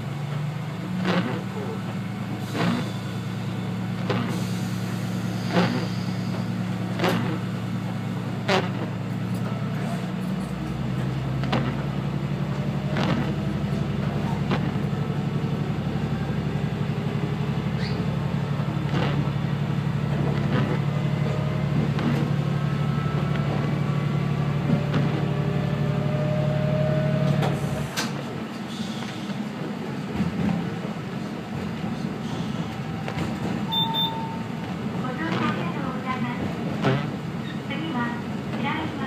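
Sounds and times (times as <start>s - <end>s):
diesel engine low hum: 0.0s - 39.0s.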